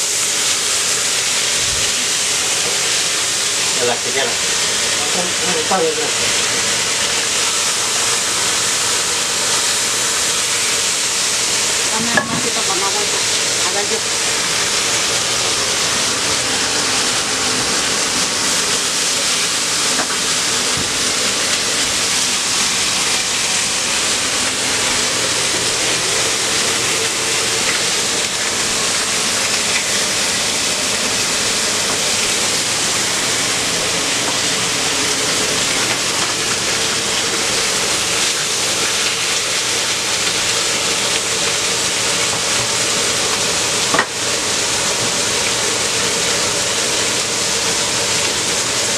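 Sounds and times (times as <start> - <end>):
salsa sizzling and bubbling: 0.0 - 48.9.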